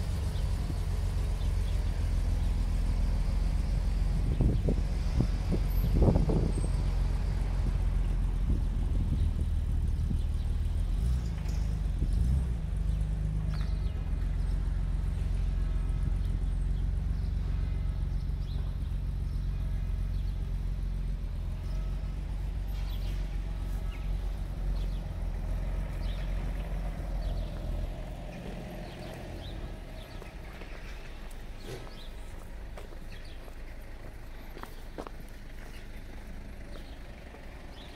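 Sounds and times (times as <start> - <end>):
vehicle engine running: 0.0 - 37.9.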